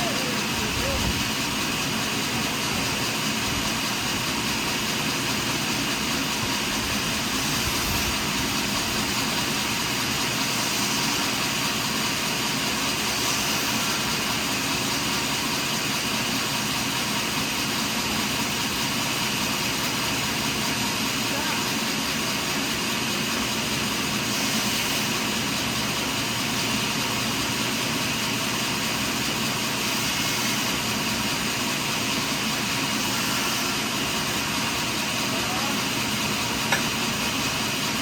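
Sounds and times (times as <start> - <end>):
sawmill machinery drone: 0.0 - 38.0.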